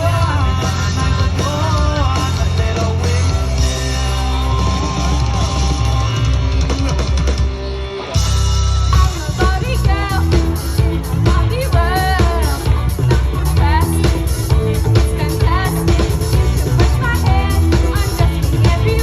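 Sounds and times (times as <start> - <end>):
person singing: 0.0 - 6.8, 9.0 - 19.0
live rock band: 0.0 - 19.0.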